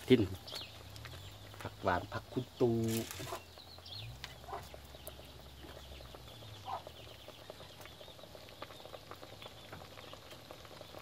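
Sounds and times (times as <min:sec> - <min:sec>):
curry simmering with pops: 0:00.0 - 0:11.0.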